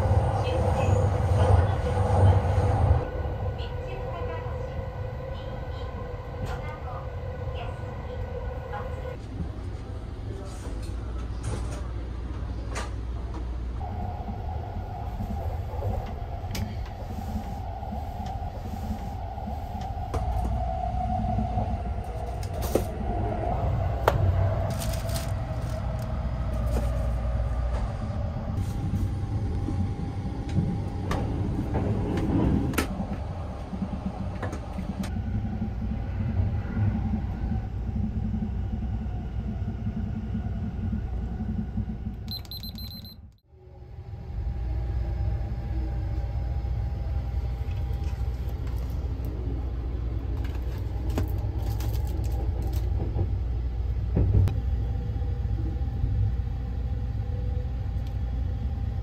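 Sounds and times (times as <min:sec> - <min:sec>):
train rumbling from inside: 0:00.0 - 0:59.0.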